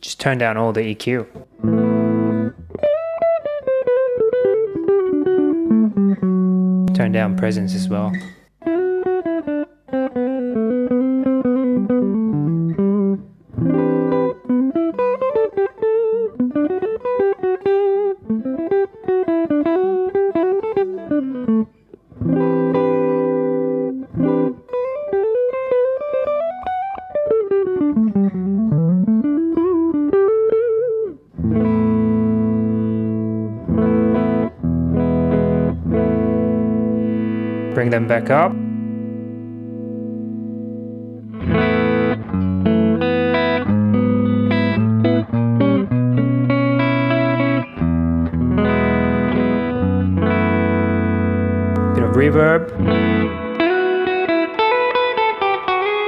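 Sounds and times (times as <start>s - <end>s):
clean electric guitar playing: 1.4s - 56.0s.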